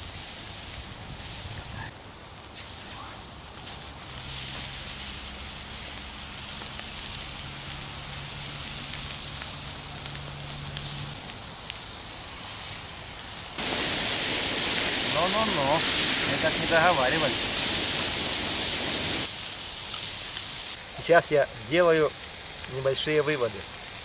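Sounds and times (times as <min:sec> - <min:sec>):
sausages sizzling on a grill: 0:00.0 - 0:24.0.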